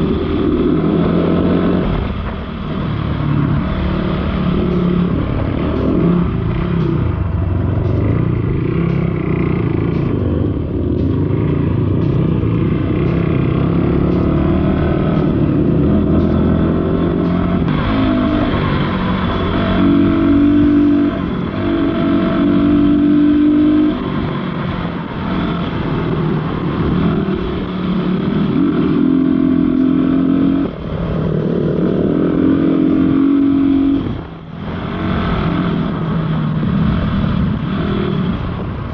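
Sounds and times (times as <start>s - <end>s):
dirt bike engine revving: 0.0s - 38.4s.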